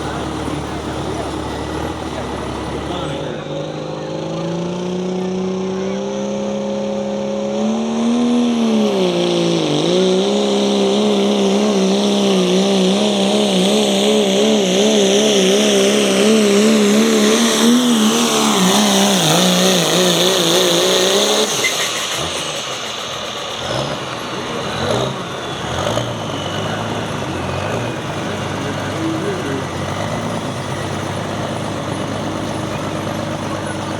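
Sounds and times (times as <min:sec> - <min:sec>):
engine running under heavy load: 0:00.0 - 0:33.9.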